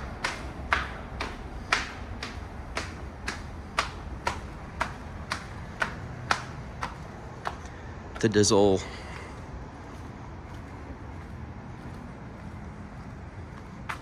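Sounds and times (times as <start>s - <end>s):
footsteps echoing in tunnel: 0.0s - 14.0s.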